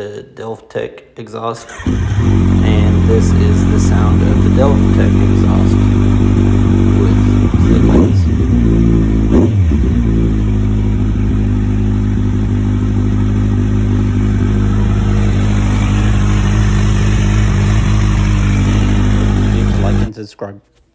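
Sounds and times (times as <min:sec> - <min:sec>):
motorcycle engine idling and revving: 0:01.6 - 0:20.1.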